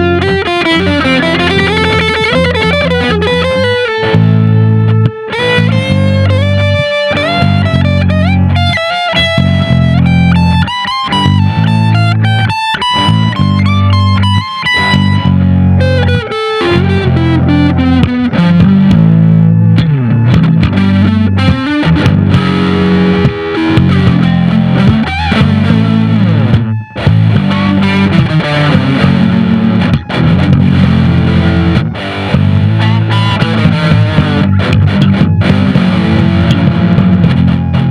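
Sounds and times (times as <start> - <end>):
low rhythm accompaniment: 0.0 - 37.9
overdriven electric guitar lead: 0.0 - 37.9.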